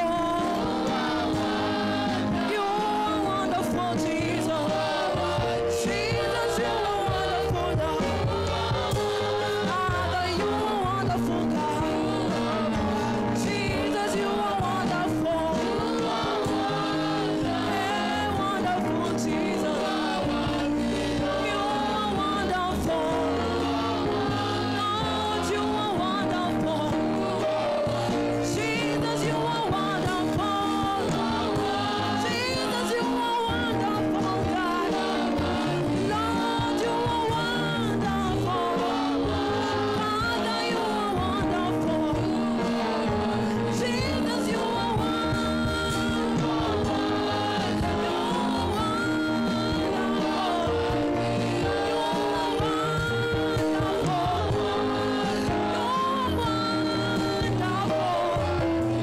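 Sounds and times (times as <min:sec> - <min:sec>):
woman singing into a microphone: 0:00.0 - 0:01.3, 0:01.9 - 0:59.0
drums: 0:00.0 - 0:59.0
keyboard: 0:00.0 - 0:59.0.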